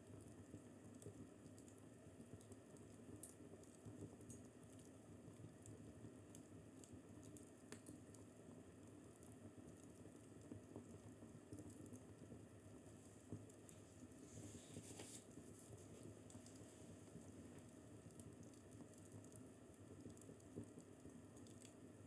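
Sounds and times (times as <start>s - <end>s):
wood fire crackling: 0.1s - 22.0s.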